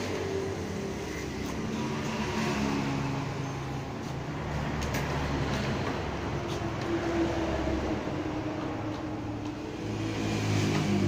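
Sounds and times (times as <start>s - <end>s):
vehicle engines passing: 0.0s - 11.0s.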